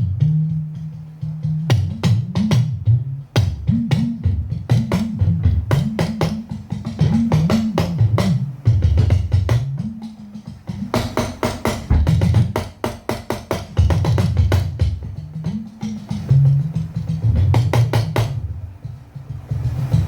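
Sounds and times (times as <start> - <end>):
talking drum strokes: 0.0 - 20.0.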